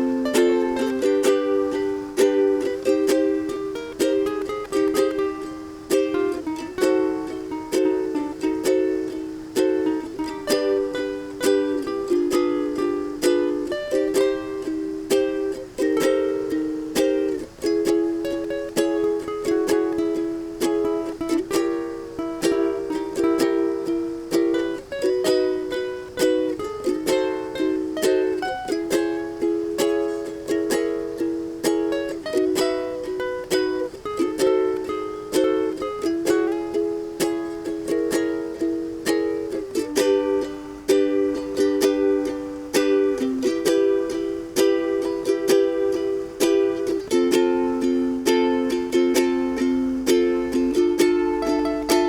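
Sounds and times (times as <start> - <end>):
ukulele strumming chords: 0.0 - 52.0.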